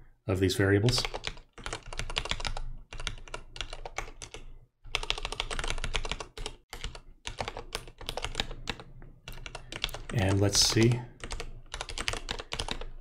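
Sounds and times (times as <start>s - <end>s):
computer keyboard typing: 0.9s - 13.0s.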